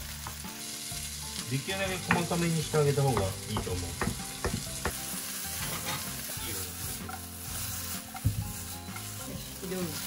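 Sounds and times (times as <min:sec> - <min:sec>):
prawns sizzling in oil: 0:00.0 - 0:10.0.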